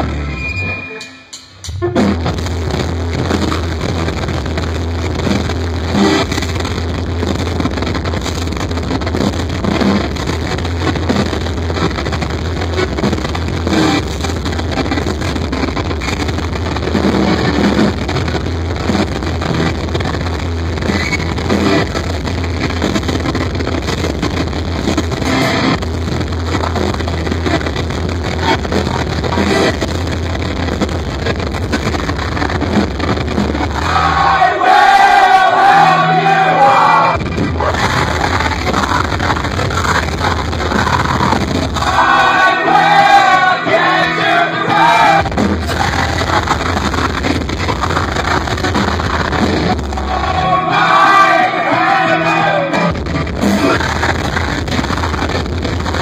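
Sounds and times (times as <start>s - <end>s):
live rock band playing: 0.0s - 34.4s, 37.2s - 56.0s.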